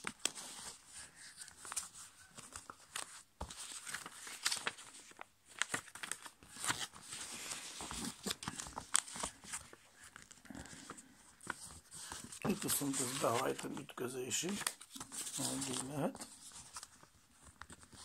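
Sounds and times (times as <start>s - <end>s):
paper crinkling while folded: 0.0s - 18.0s.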